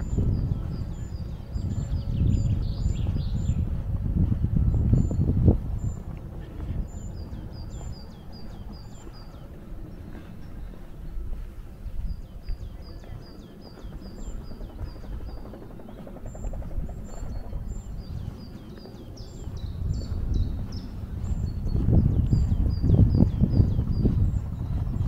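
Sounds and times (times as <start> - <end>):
songbird chirping: 0.0 - 25.0
steady low rumble: 0.0 - 25.0.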